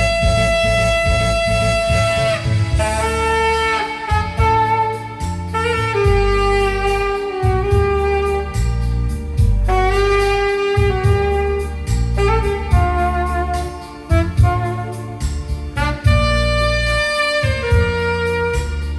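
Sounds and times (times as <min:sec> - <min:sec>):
alto saxophone melody: 0:00.0 - 0:18.9
bass: 0:00.0 - 0:18.9
keyboard accompaniment: 0:00.0 - 0:18.9
steady drum beat: 0:00.0 - 0:18.9.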